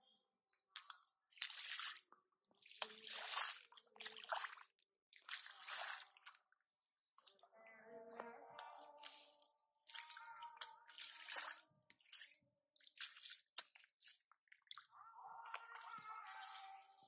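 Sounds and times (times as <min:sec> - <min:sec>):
bare feet squelching in mud: 0:00.8 - 0:06.4, 0:08.8 - 0:17.0.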